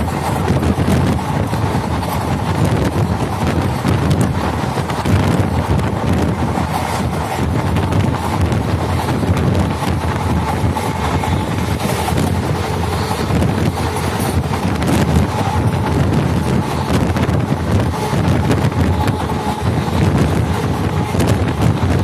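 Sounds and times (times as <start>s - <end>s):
train wheels rumbling on track: 0.0s - 22.0s
wind blowing on microphone: 0.0s - 22.0s.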